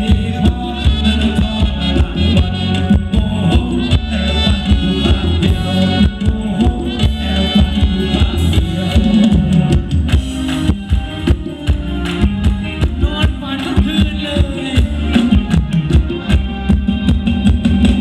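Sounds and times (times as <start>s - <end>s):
live band dance music: 0.0s - 18.0s.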